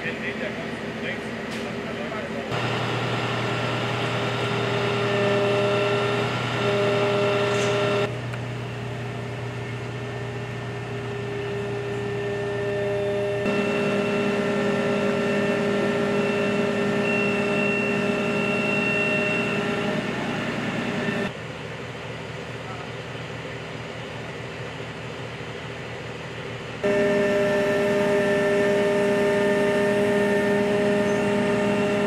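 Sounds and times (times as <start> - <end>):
truck engine running: 0.0 - 32.0.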